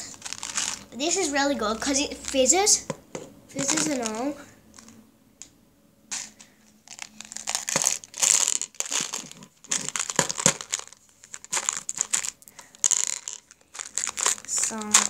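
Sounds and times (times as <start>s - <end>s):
crinkling and rustling: 0.0s - 5.0s, 6.1s - 15.0s.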